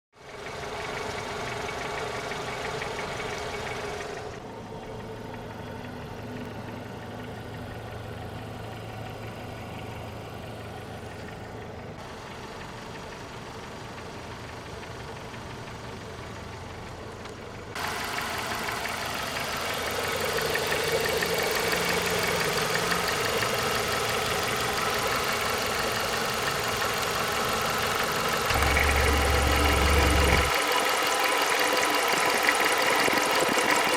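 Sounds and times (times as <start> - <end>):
car engine idling with chatter: 0.3 - 33.9.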